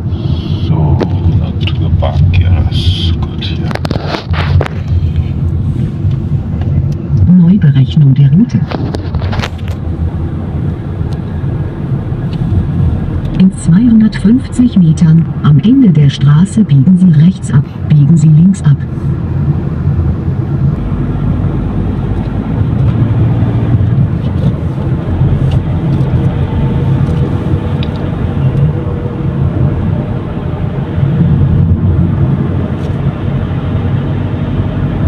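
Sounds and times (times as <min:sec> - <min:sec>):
car engine: 0:00.0 - 0:35.0.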